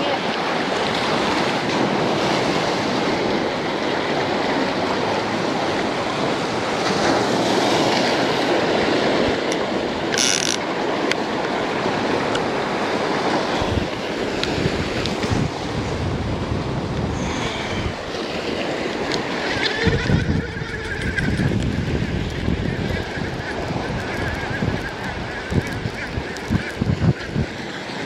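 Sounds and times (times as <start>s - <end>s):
surf breaking on beach: 0.0s - 28.0s.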